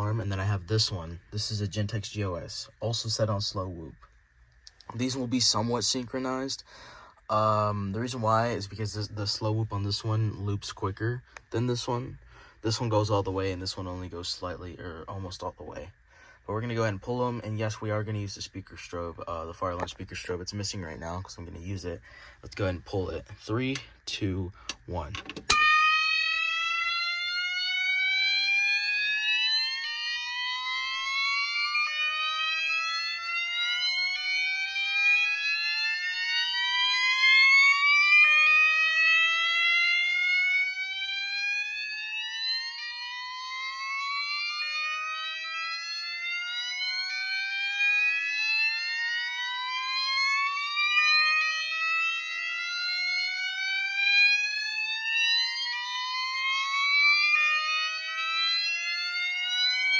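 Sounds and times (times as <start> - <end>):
fire alarms whooping: 0.0 - 4.1, 4.9 - 19.8, 21.3 - 59.9.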